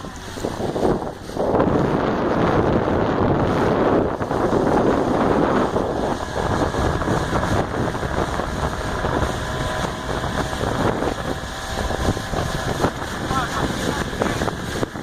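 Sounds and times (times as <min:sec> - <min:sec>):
outboard motor running: 0:00.0 - 0:15.0
wind noise on microphone: 0:00.0 - 0:15.0.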